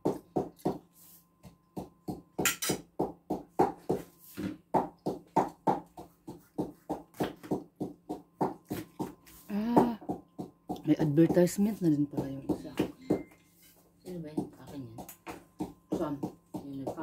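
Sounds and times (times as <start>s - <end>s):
knife chopping on cutting board: 0.0s - 17.0s.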